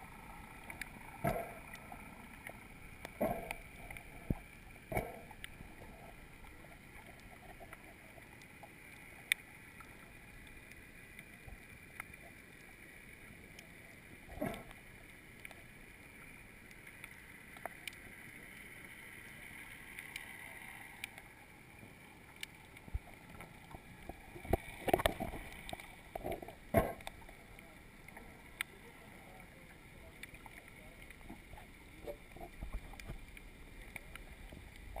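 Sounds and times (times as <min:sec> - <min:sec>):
muffled underwater hiss: 0:00.0 - 0:35.0.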